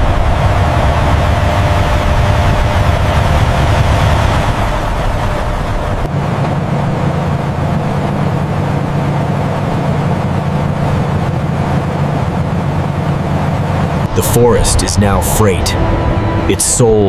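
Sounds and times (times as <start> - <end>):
road and wind noise: 0.0 - 17.0
truck engine drone: 0.0 - 17.0.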